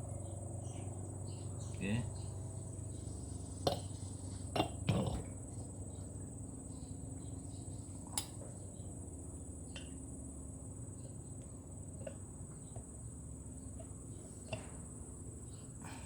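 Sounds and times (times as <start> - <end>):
faint hum and high whine: 0.0 - 16.0.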